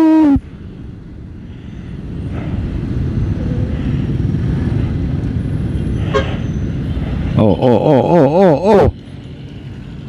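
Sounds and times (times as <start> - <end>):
surrounding traffic: 0.0 - 10.0.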